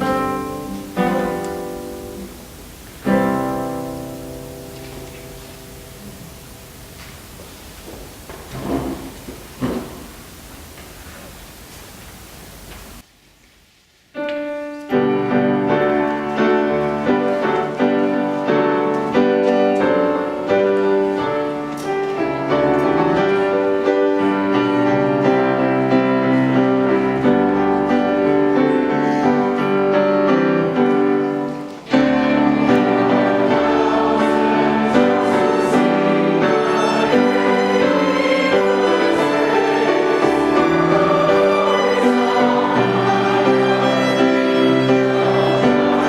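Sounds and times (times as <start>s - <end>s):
classical keyboard music: 0.0s - 10.0s, 14.2s - 46.0s.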